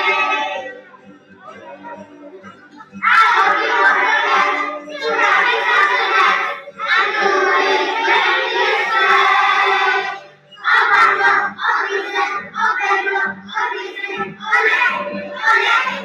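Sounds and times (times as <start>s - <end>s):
children singing in unison: 0.0s - 0.9s, 3.0s - 16.0s.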